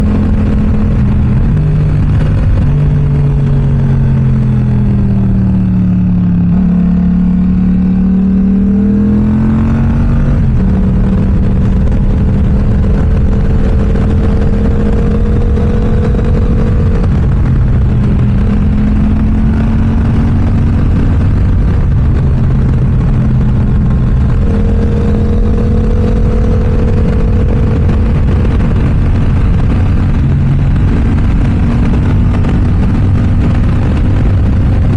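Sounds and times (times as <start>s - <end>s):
motorcycle engine while riding: 0.0s - 34.9s.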